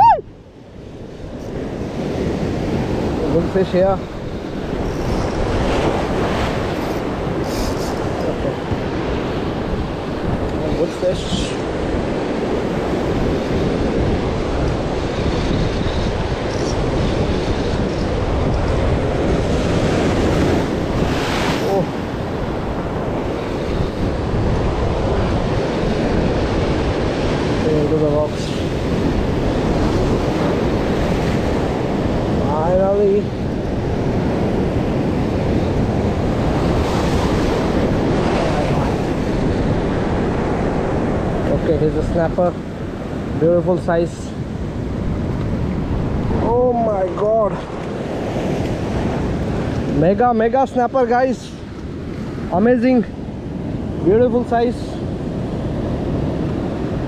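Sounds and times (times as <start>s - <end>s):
wind buffeting microphone: 0.0s - 57.0s
sea surf breaking on rocks: 0.8s - 57.0s.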